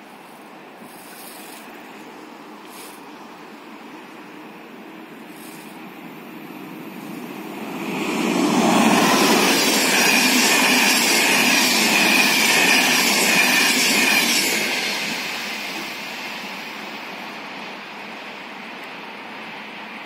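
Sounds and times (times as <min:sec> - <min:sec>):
passenger train rushing past: 0:02.0 - 0:20.0.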